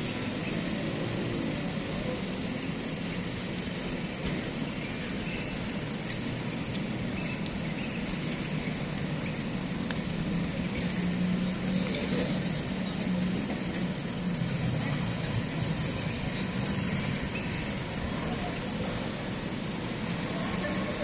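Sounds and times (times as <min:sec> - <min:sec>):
low engine hum: 0:00.0 - 0:21.0
street traffic noise: 0:00.0 - 0:21.0.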